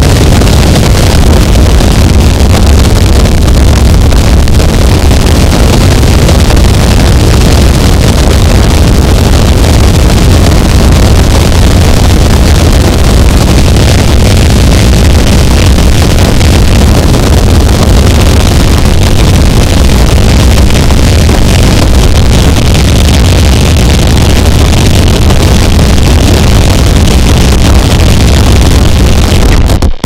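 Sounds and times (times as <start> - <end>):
dense distorted noise wall: 0.0 - 30.0.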